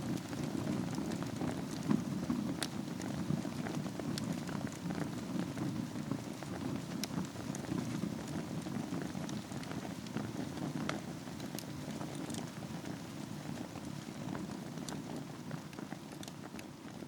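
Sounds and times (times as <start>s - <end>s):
fire crackles and pops: 0.0s - 17.0s
rush of flames: 0.0s - 17.0s.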